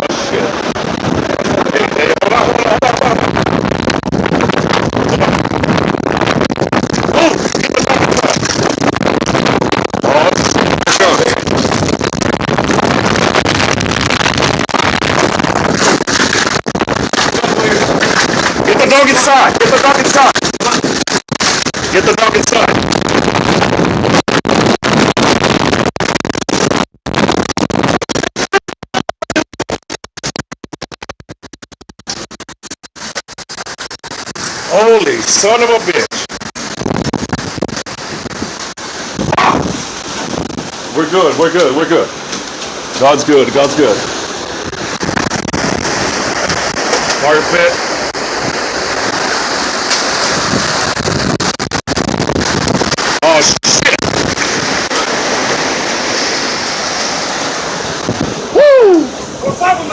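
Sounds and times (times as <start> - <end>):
wind buffeting microphone: 0.0 - 28.3, 34.0 - 59.9.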